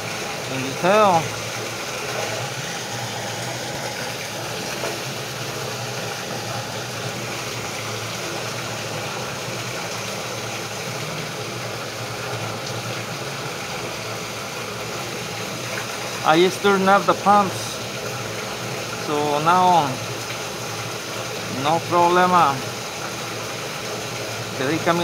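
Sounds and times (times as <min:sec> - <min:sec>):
pumps humming: 0:00.0 - 0:25.0
rushing water: 0:00.0 - 0:25.0.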